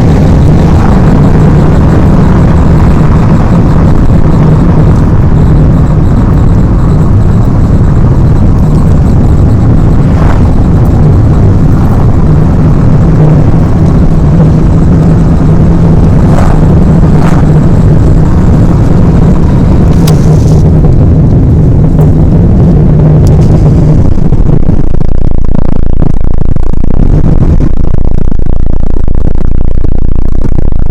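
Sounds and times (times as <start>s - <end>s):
car road and engine rumble: 0.0s - 27.8s.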